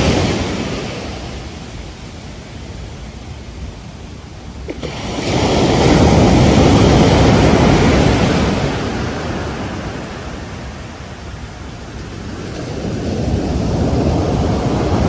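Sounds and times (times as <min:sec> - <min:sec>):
ocean waves breaking: 0:00.0 - 0:02.9, 0:03.5 - 0:15.0.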